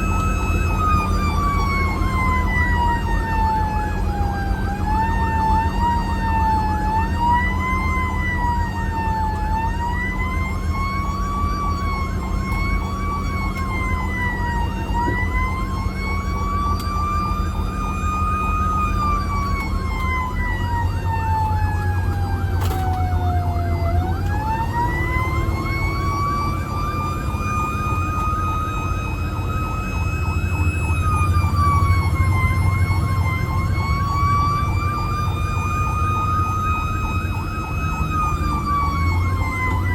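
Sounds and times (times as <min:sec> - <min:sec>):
fire engine siren wailing: 0:00.0 - 0:39.9
low engine drone: 0:00.0 - 0:39.9.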